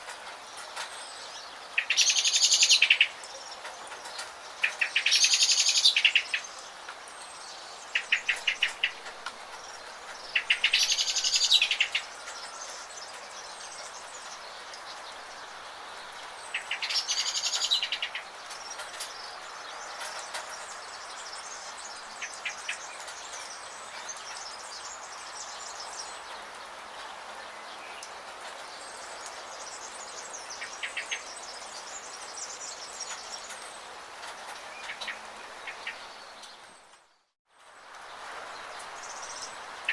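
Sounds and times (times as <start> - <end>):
rain hiss: 0.0 - 39.9
songbirds chirping and trilling: 0.0 - 39.9.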